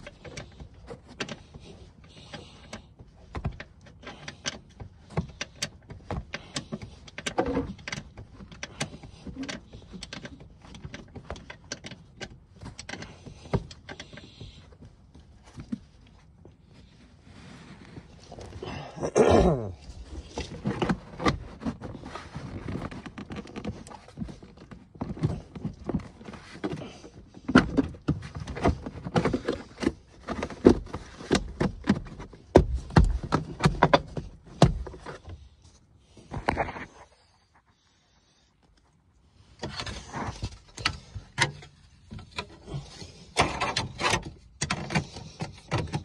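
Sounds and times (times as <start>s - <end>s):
hands working car interior trim: 0.0s - 37.2s, 39.4s - 46.0s.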